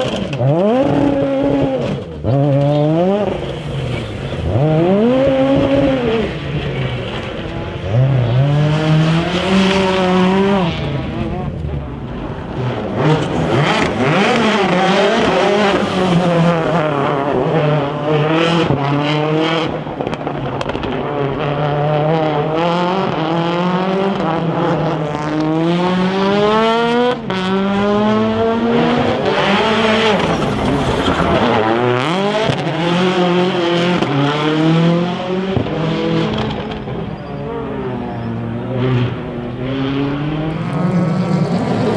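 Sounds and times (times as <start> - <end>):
rally car engines at full throttle: 0.0 - 41.9.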